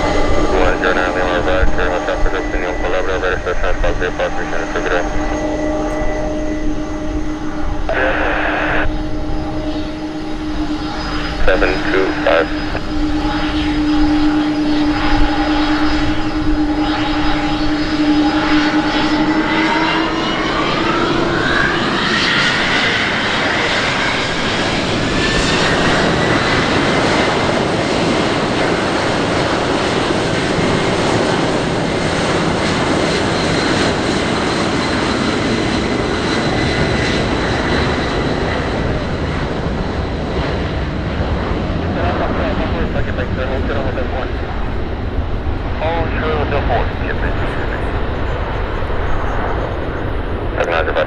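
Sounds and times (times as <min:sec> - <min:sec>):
aircraft engines spooling up: 0:00.0 - 0:51.0
high-pitched engine whine: 0:00.0 - 0:51.0.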